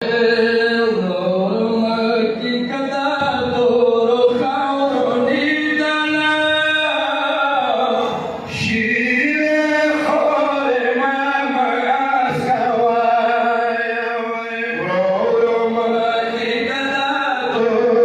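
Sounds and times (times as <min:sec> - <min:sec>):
men chanting unaccompanied: 0:00.1 - 0:18.0.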